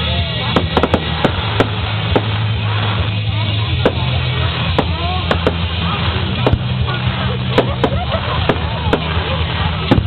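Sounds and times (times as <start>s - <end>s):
fireworks banging: 0.0s - 10.0s.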